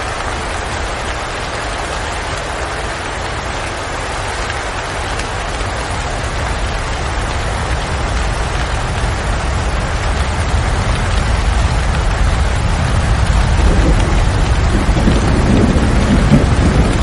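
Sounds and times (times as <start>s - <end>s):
low rumble of wind: 0.0s - 17.0s
steady rain falling: 0.0s - 17.0s.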